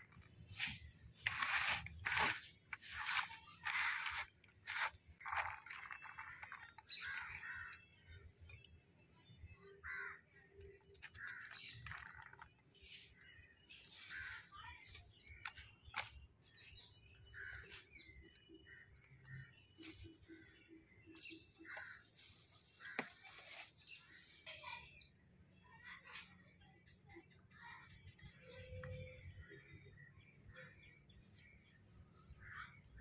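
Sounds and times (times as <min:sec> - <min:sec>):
faint birds calling: 0:00.0 - 0:26.5, 0:27.2 - 0:33.0.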